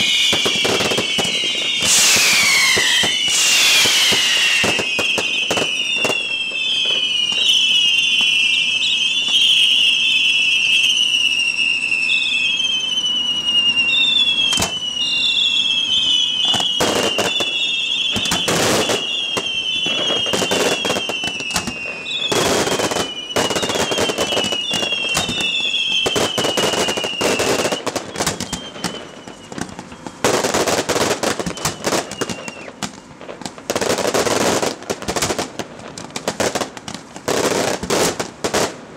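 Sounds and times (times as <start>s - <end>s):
firework bangs and crackle: 0.0s - 38.9s
whistling fireworks: 0.0s - 38.9s.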